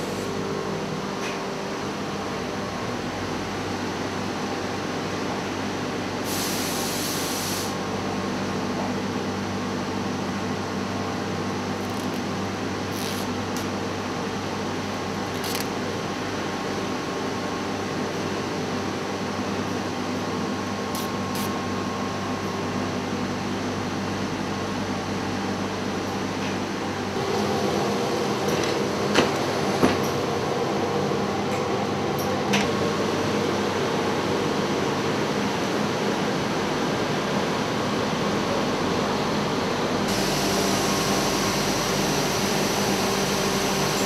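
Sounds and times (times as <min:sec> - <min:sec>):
machinery hum: 0:00.0 - 0:44.0.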